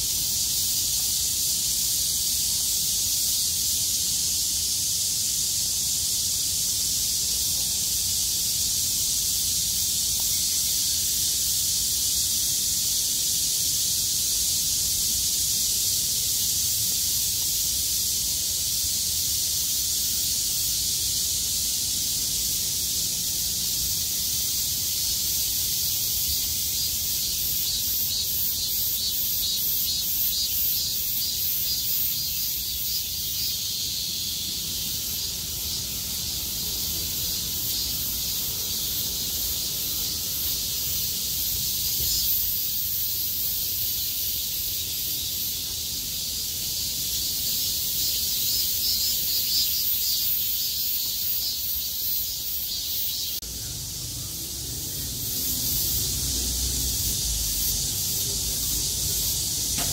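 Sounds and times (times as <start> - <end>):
cicadas buzzing: 0.0 - 59.9
pulsing insect call: 0.0 - 59.9.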